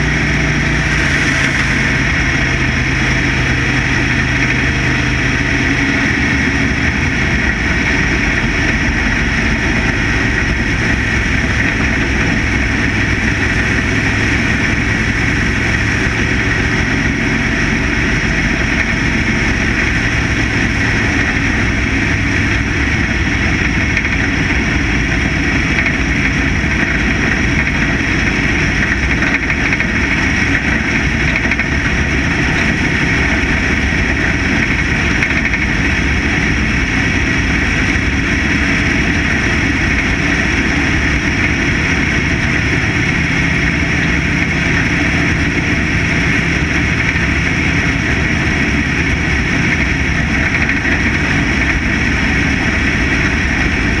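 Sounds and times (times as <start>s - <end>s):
chassis rattle: 0.0s - 54.0s
race car engine running: 0.0s - 54.0s
wind noise: 0.0s - 54.0s.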